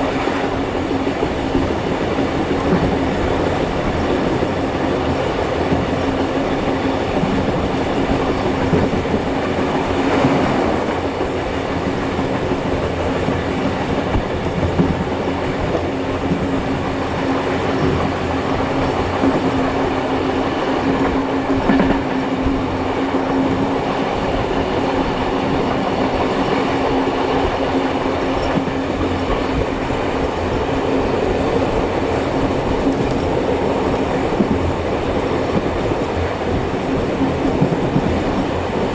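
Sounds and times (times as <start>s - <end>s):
clickety-clack over rail joints: 0.0s - 38.9s
train wheels rumbling on rails: 0.0s - 38.9s.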